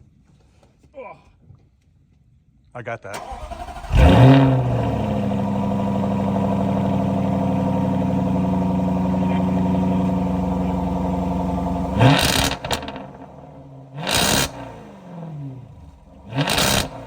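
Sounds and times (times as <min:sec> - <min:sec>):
car engine idling: 0:03.2 - 0:17.0.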